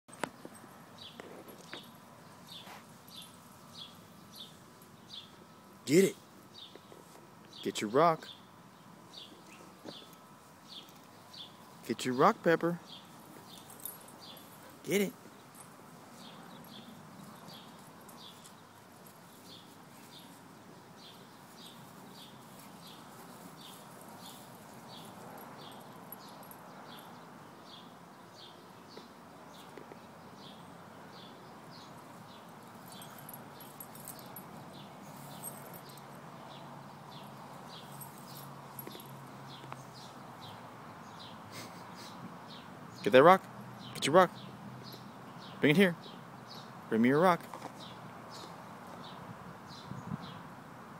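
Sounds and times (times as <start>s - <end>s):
bird chirping: 0.3s - 50.5s.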